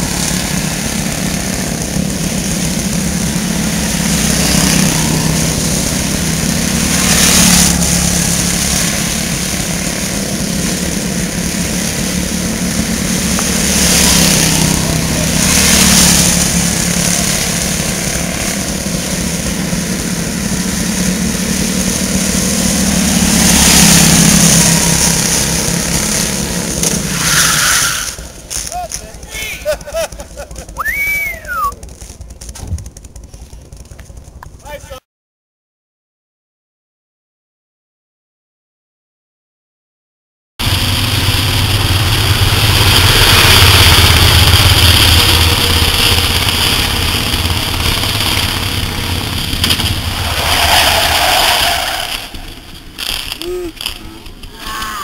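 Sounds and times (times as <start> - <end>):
small race car engine: 0.0 - 33.1, 40.6 - 55.0.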